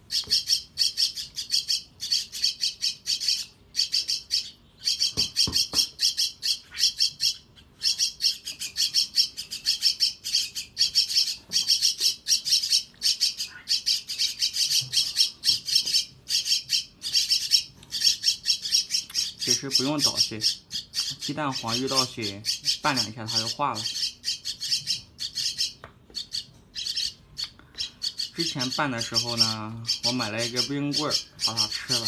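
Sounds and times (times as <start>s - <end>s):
nestlings begging calls: 0.0s - 32.0s.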